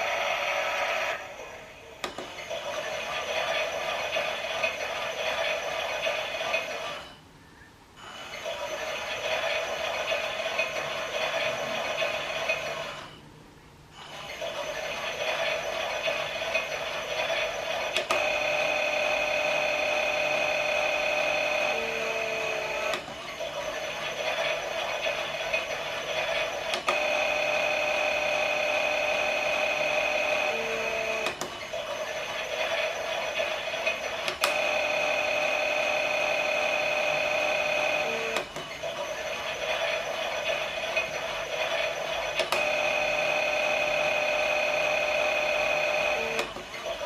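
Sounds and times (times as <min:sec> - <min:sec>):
toy washing machine motor whining: 0:00.0 - 0:07.0, 0:08.1 - 0:13.0, 0:14.0 - 0:47.0.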